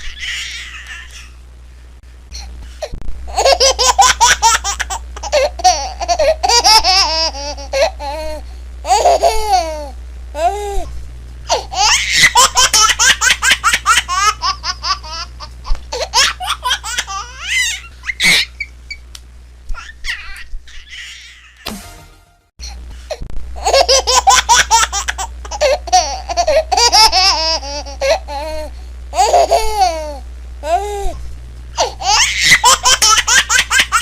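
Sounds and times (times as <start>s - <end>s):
baby laughing: 0.0s - 1.4s, 3.3s - 10.7s, 11.5s - 18.7s, 19.7s - 21.6s, 23.6s - 30.8s, 31.8s - 34.0s.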